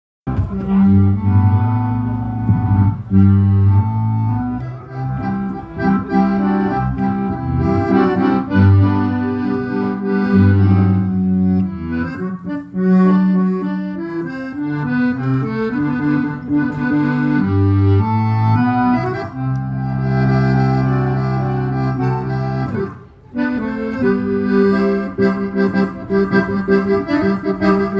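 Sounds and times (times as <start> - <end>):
accordion music: 0.3 - 27.9
low bass notes: 0.3 - 27.9.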